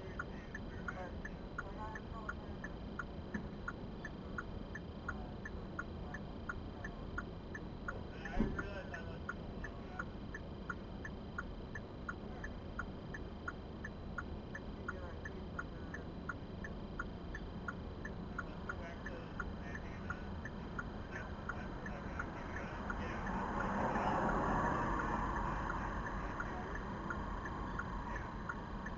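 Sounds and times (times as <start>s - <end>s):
low car cabin hum: 0.0s - 28.9s
turn signal clicking: 0.1s - 28.9s.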